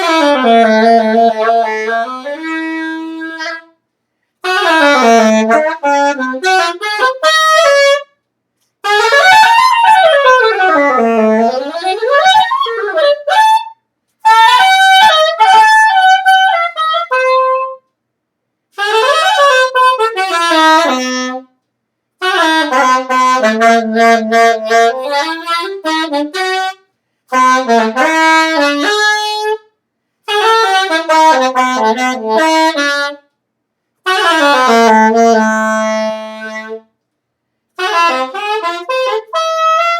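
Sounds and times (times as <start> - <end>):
saxophone improvising: 0.0 - 3.8, 4.4 - 17.9, 18.7 - 21.6, 22.2 - 33.3, 34.0 - 37.0, 37.8 - 39.9.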